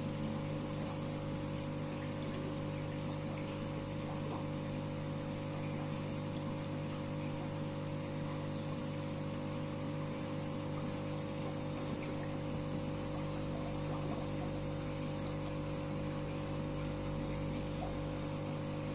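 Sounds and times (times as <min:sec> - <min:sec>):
air bubbles in water: 0:00.0 - 0:18.9.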